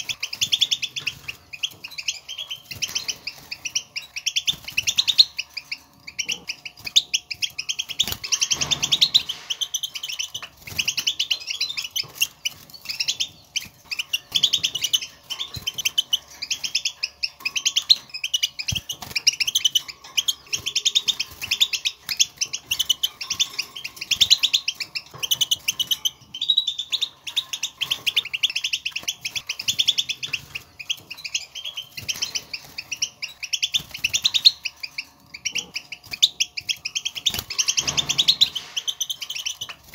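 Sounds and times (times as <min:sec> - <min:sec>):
goldfinch twittering calls: 0:00.0 - 0:39.9.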